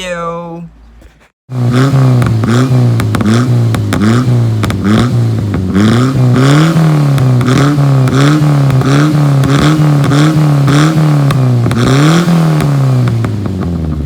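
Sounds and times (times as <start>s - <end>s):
engine revving in blips: 1.5s - 14.0s
exhaust pops and crackles: 1.7s - 14.0s.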